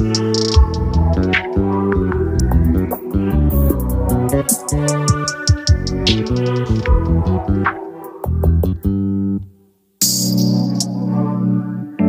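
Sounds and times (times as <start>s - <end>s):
background music held chords: 0.0s - 12.0s.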